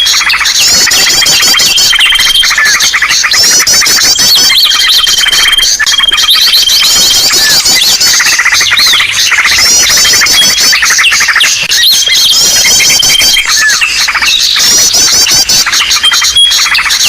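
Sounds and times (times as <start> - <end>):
small birds chirping and trilling: 0.0 - 17.0.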